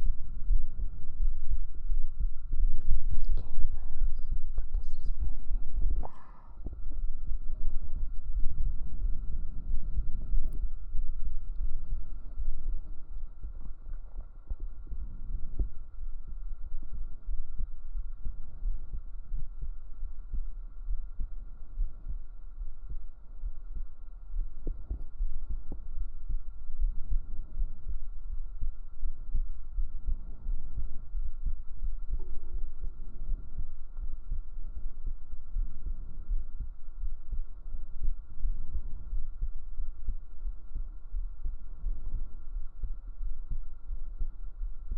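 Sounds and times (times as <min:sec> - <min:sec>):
heartbeat thuds: 0:00.0 - 0:44.9.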